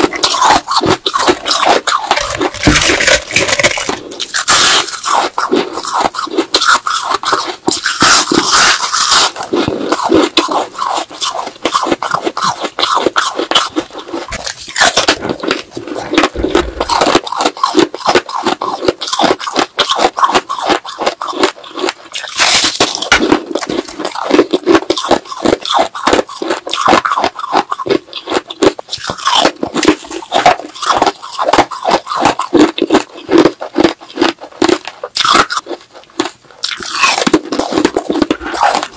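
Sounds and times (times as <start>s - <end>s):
teeth crunching ice: 0.0s - 38.9s.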